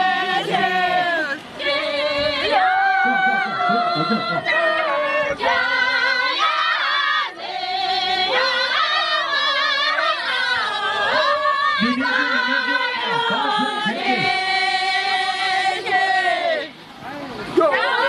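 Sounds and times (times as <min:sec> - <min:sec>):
women singing together: 0:00.0 - 0:17.0, 0:17.6 - 0:18.0
lower voices singing: 0:00.0 - 0:18.0.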